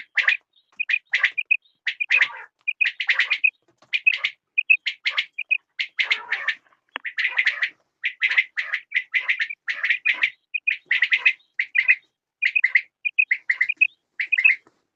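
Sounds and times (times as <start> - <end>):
quail calling: 0.0 - 14.7.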